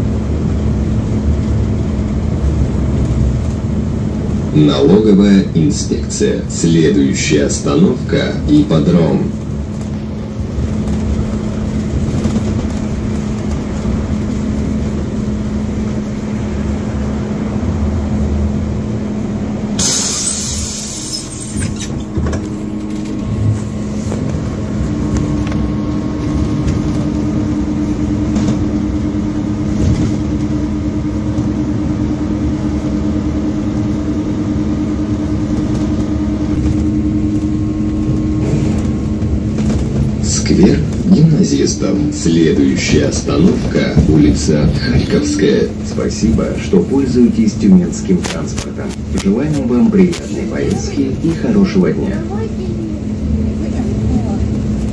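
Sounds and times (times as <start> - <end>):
bus engine hum: 0.0 - 54.9.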